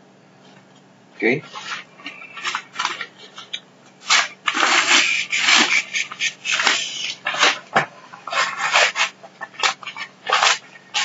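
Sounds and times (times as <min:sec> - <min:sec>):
plastic mailer crinkling: 0:01.5 - 0:11.0.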